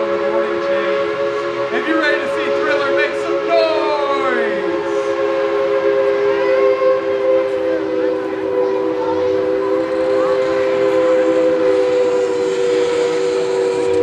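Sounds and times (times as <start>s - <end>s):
steam locomotive whistle: 0.0s - 14.0s
train running noise: 0.0s - 14.0s.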